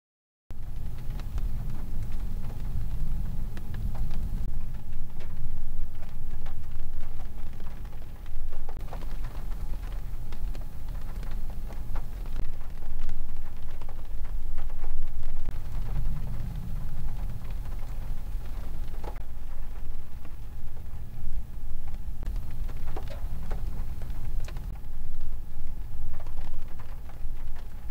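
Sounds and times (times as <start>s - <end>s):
low rumble: 0.5s - 27.9s
rain patter: 0.5s - 27.9s
raindrops ticking: 0.5s - 27.9s.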